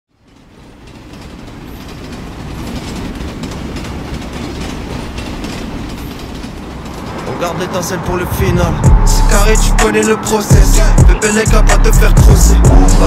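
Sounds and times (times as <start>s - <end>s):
train rolling on rails: 0.1s - 13.0s.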